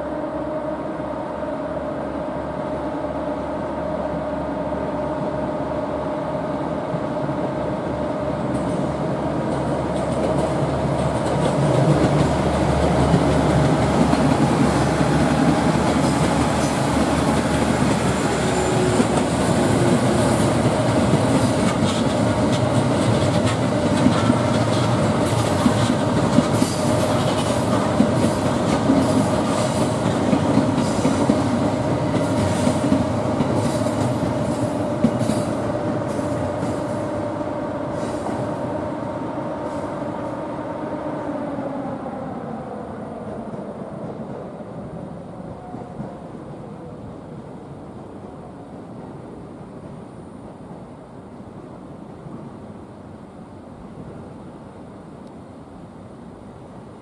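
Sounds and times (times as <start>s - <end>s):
electric train running hum: 0.0s - 57.0s.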